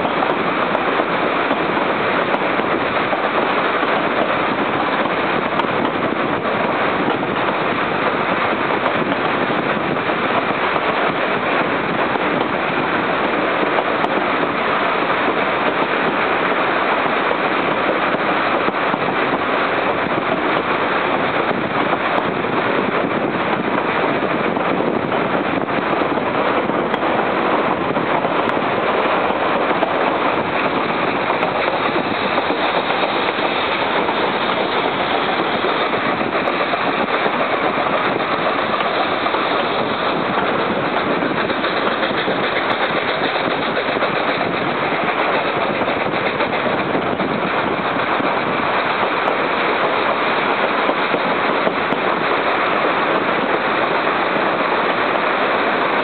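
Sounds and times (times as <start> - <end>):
air rushing past train car: 0.0 - 56.0
train wheels rolling on rails: 0.0 - 56.0.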